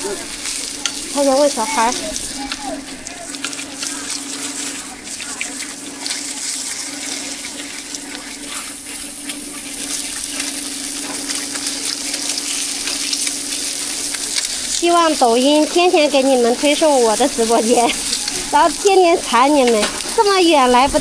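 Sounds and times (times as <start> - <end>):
griddle sizzling and crackling: 0.0 - 21.0.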